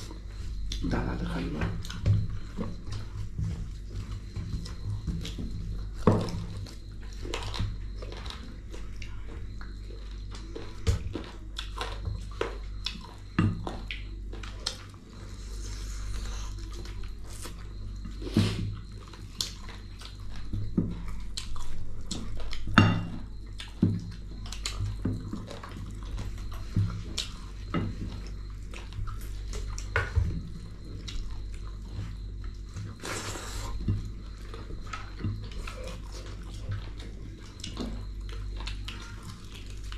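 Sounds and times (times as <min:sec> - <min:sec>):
person chewing food: 0:00.0 - 0:01.0, 0:01.8 - 0:39.9
steady low hum: 0:00.0 - 0:39.9.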